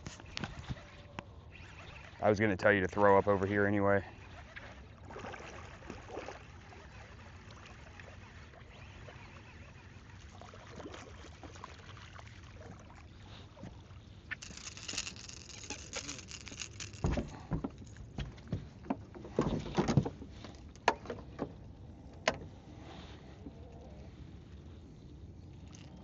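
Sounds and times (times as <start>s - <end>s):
water lapping around boat: 0.0s - 26.0s.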